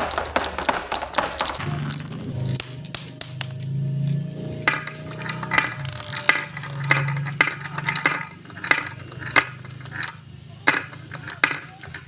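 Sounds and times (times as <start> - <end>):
glass marbles clicking: 0.0 - 12.0
low steady hum: 1.6 - 12.0.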